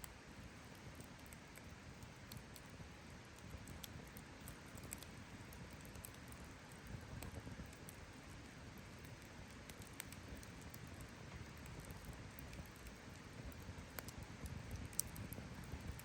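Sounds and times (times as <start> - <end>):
low steady hiss of fire: 0.0 - 16.0
campfire crackling and popping: 0.1 - 16.0.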